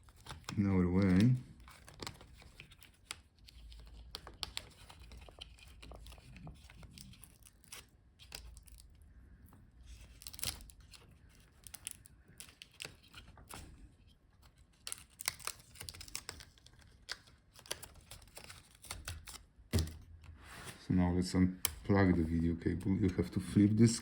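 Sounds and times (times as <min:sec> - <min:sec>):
faint clicks and rustling of hands: 0:00.0 - 0:20.4.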